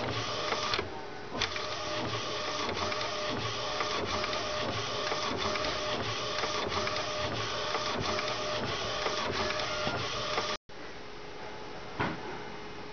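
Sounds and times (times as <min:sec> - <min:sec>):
inkjet printer running: 0:00.0 - 0:10.6.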